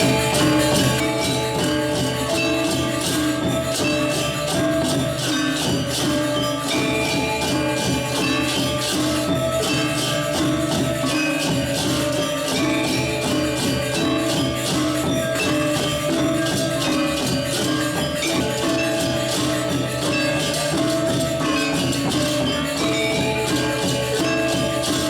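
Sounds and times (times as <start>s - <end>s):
fast high metallic jingling: 0.0s - 25.0s
gamelan ringing metal tones: 0.0s - 25.0s.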